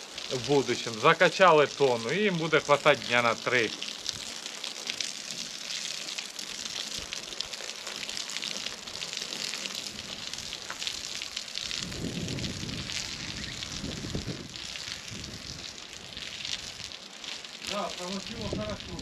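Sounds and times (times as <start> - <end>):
water spraying from a hose: 0.0 - 19.0.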